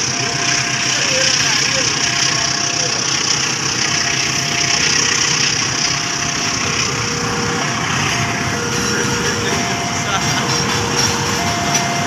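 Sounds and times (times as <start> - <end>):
steel wheels rolling on rails: 0.0 - 12.0.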